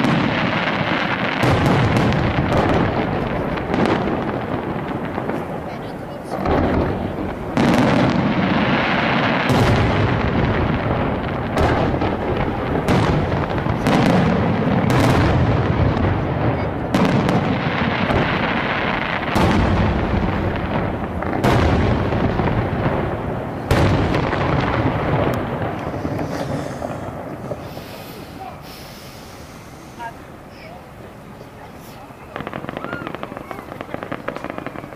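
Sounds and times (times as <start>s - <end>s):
firework shells bursting: 0.0s - 30.1s, 32.3s - 34.9s.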